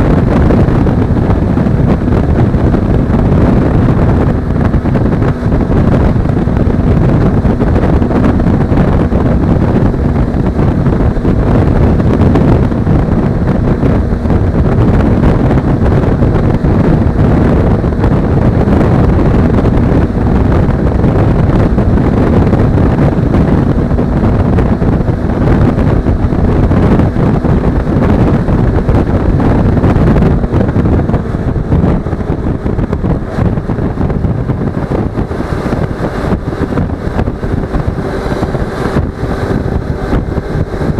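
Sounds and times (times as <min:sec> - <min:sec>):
heavy wind rush on microphone: 0:00.0 - 0:40.9
motorcycle engine running: 0:00.0 - 0:40.9.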